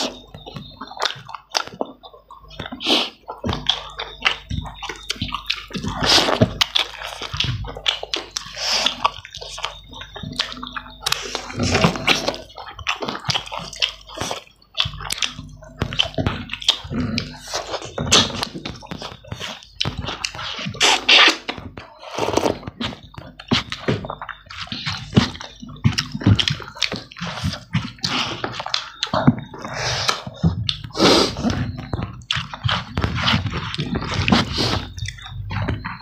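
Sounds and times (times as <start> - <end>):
fingers squishing saucy rice: 0.0 - 36.0
people chewing and lip-smacking: 0.0 - 36.0.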